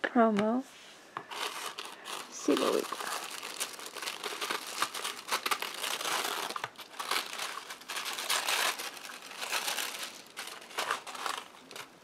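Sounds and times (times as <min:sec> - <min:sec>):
tissue paper crinkling: 0:01.3 - 0:12.0.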